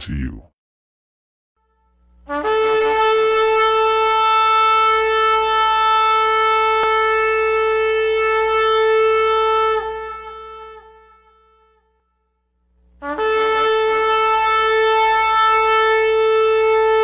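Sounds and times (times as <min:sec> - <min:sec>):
ram's horn blast: 0:01.6 - 0:11.9, 0:13.0 - 0:17.0.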